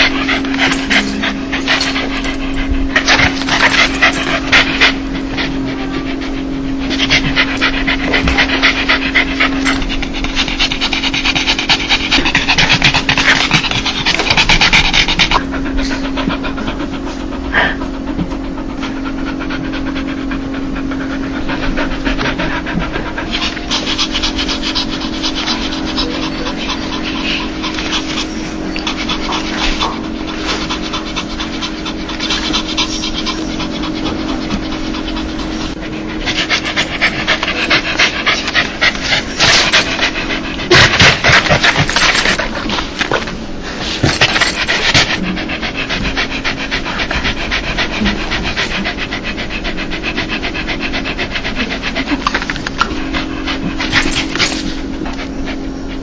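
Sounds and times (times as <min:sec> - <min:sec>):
dog panting: 0:00.0 - 0:56.0
low hum: 0:00.0 - 0:56.0.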